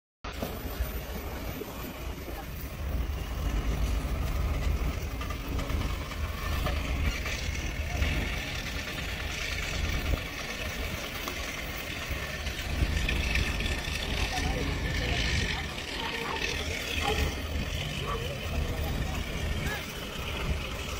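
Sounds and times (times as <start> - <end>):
diesel engine rumbling: 0.3 - 20.9.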